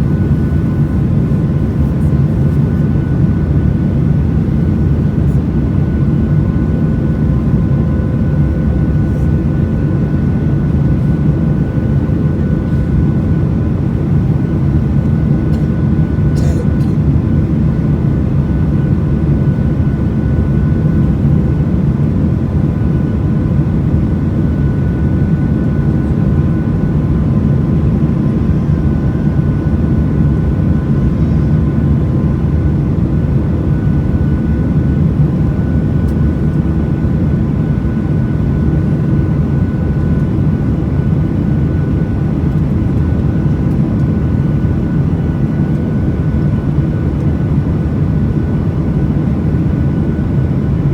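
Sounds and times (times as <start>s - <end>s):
jet engines and airflow rumble: 0.0s - 50.9s.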